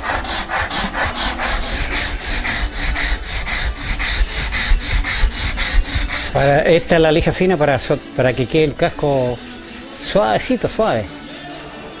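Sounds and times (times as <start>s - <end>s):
hand rubbing wooden drum shell: 0.0s - 12.0s.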